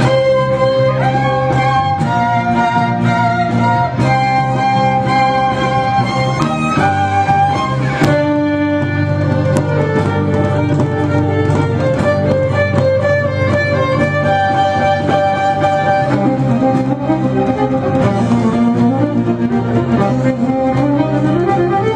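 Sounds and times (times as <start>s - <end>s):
fiddle playing long notes: 0.0s - 21.9s
low instrumental accompaniment: 0.0s - 21.9s.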